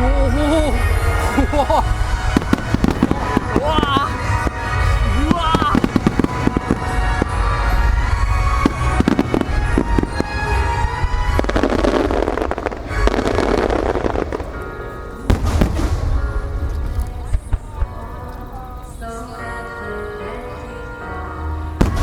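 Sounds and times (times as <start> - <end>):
deep continuous rumble: 0.0 - 19.4
fireworks bangs: 0.0 - 20.8, 21.7 - 22.0
music playing: 0.0 - 22.0.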